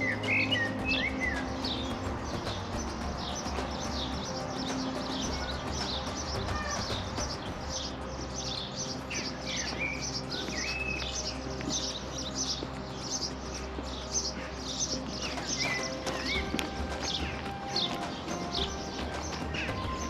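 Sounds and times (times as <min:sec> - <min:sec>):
birds chirping: 0:00.0 - 0:20.0
whistled gliding bird notes: 0:00.0 - 0:20.0.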